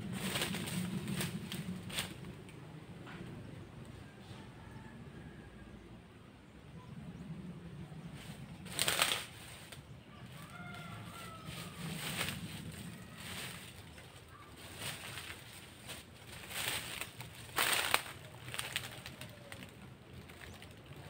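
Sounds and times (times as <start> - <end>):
leaves and branches rustling: 0.0 - 4.8, 7.6 - 21.0.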